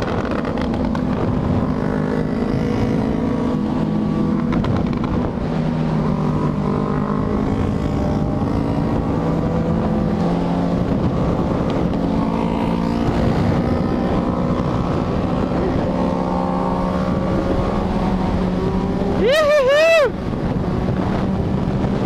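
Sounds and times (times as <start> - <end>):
motorcycle engines cruising: 0.0 - 22.0
wind rushing over microphone: 0.0 - 22.0.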